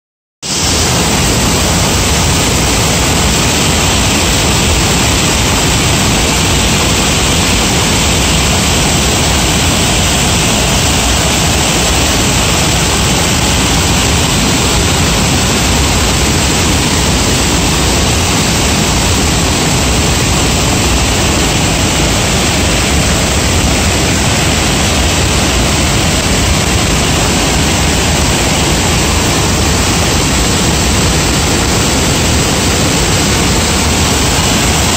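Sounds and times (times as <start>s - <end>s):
floodwater roaring over rapids: 0.5s - 34.9s.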